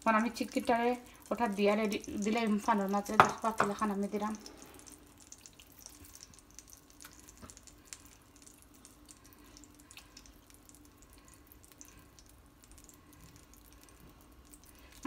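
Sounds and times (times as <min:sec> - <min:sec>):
low steady hum: 0:00.0 - 0:15.0
oil crackling in a frying pan: 0:00.0 - 0:15.0.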